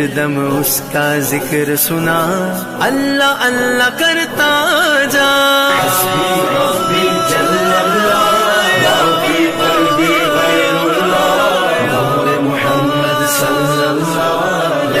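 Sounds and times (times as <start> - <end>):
person singing devotional melody: 0.0 - 15.0.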